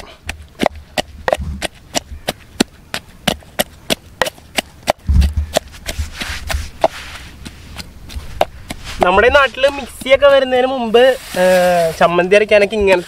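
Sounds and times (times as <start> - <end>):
pestle pounding in mortar: 0.0 - 11.0.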